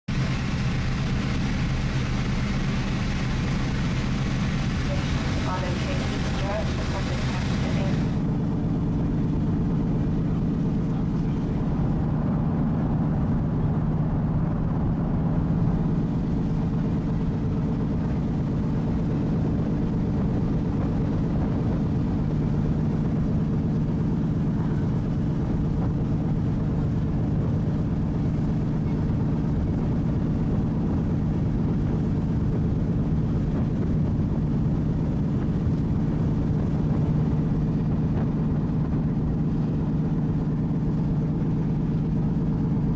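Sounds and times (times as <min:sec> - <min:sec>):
ship engines droning: 0:00.1 - 0:42.9.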